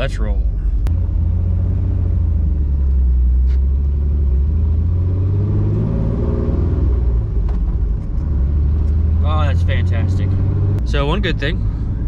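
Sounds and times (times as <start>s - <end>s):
car engine accelerating: 0.8s - 12.0s.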